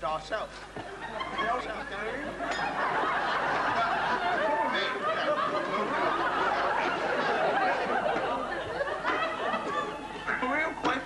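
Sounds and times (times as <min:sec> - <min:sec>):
studio audience laughing: 0:00.9 - 0:10.8.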